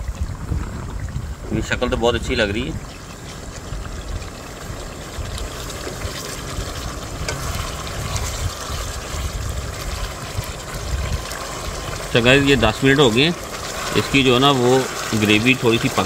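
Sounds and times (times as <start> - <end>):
steady low rumble: 0.0 - 14.2
curry bubbling in a pot: 0.0 - 16.0.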